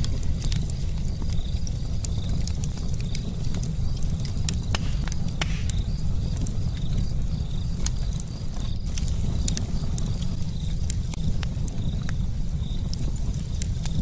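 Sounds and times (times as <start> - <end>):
crickets chirping: 0.0 - 14.0
wood fire crackling: 0.0 - 14.0.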